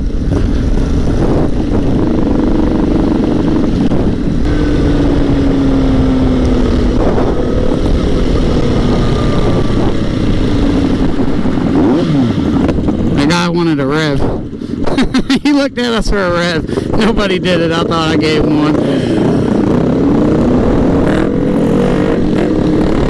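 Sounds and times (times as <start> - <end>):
motorcycle engine running: 0.0 - 23.0
wind rushing over microphone: 0.0 - 23.0.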